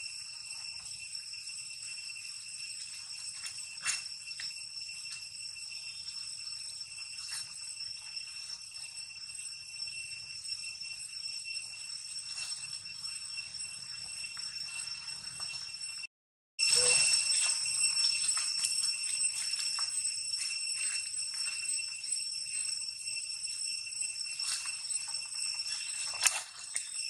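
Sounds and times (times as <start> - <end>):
insects ringing drone: 0.0 - 27.0.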